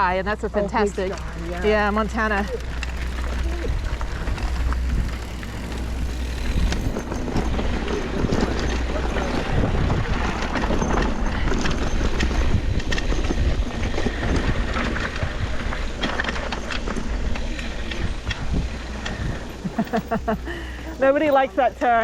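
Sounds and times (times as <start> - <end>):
bike clattering and rattling: 0.0 - 22.0
wind buffeting microphone: 0.0 - 22.0.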